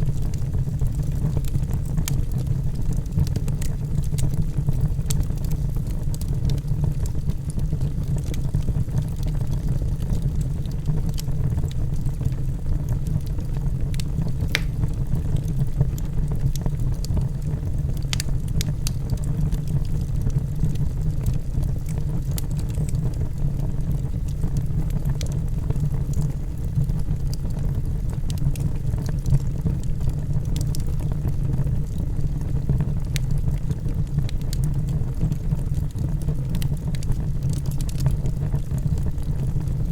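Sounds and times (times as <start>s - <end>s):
burning wood crackling and popping: 0.0s - 39.9s
fire flames rumbling: 0.0s - 39.9s.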